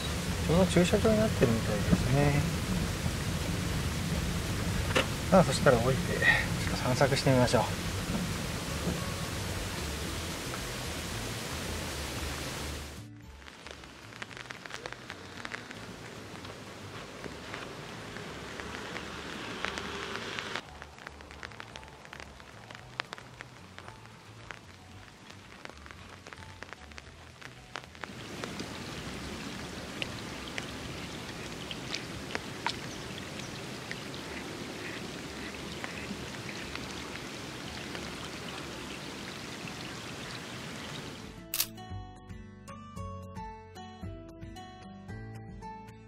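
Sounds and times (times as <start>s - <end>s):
raindrops ticking on surfaces: 0.0s - 41.4s
steady rain falling: 0.0s - 41.4s.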